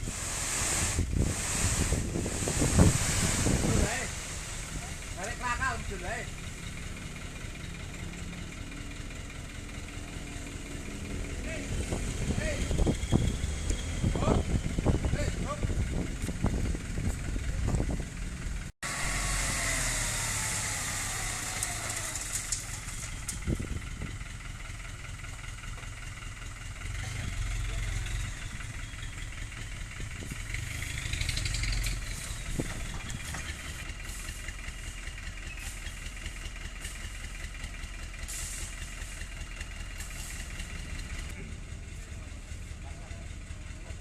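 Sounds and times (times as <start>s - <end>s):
truck diesel engine running: 0.1s - 44.0s.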